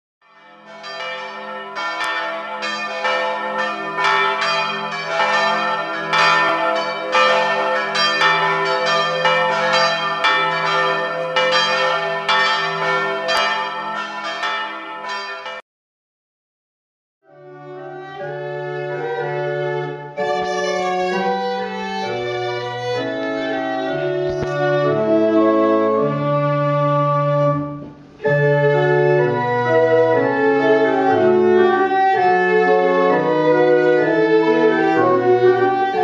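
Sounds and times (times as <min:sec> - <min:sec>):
church bells ringing: 0:00.2 - 0:15.6, 0:18.1 - 0:26.3, 0:28.3 - 0:36.0.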